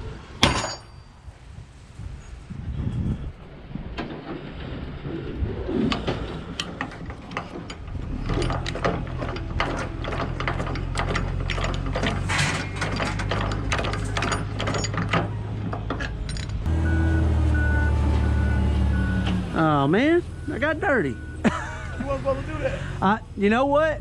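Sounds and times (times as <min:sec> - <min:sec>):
low engine hum: 0:04.2 - 0:24.0.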